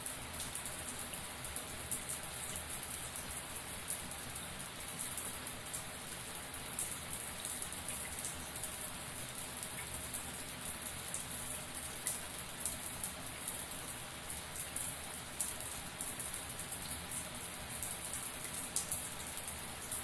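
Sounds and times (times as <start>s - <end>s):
shower water pattering: 0.3s - 20.0s.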